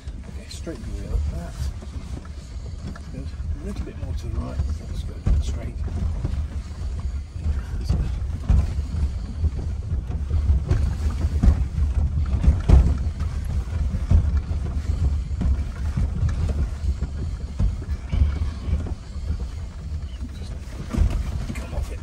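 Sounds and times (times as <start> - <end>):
car cabin rumble: 0.0 - 22.0
suspension knocks over bumps: 0.0 - 22.0.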